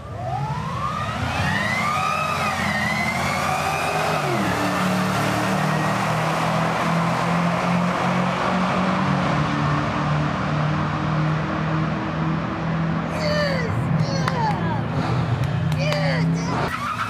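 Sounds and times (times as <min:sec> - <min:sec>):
cars accelerating hard: 0:00.1 - 0:17.0.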